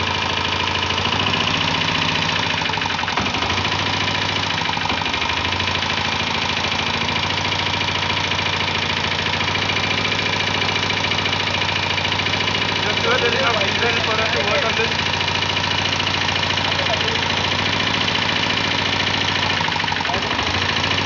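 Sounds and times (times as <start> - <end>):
diesel motorcycle idling: 0.0 - 21.0.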